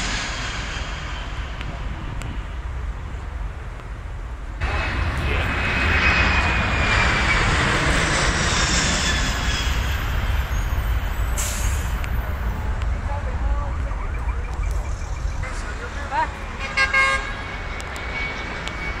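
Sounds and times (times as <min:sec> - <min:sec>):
jet airliner roar and whine: 0:00.0 - 0:19.0
steady low rumble: 0:00.0 - 0:19.0.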